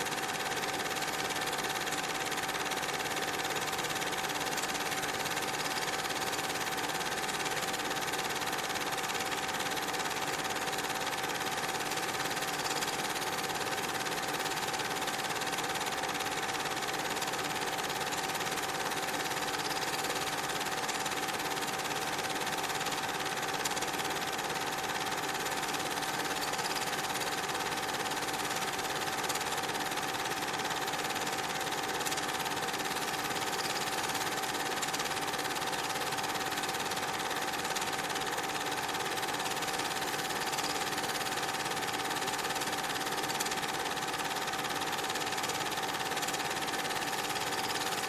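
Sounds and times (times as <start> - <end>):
film projector whirring: 0.0 - 48.0.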